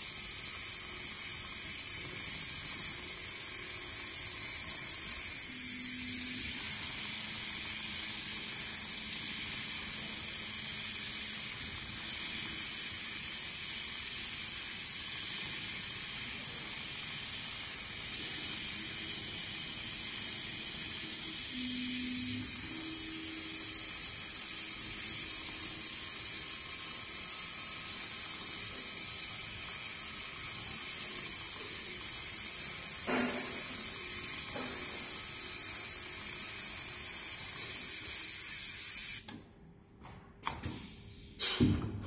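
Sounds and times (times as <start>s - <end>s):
sewing machine buzzing hiss: 0.0s - 39.4s.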